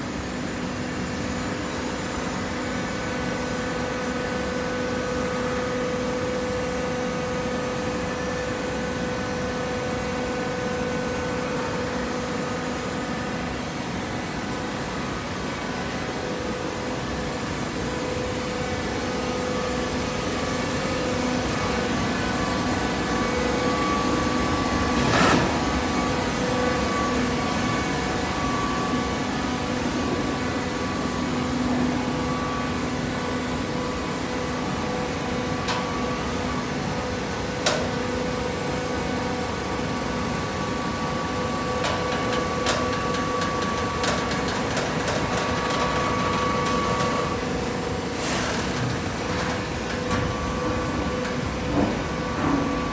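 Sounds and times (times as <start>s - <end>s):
hydraulic baler humming and whining: 0.0s - 52.9s.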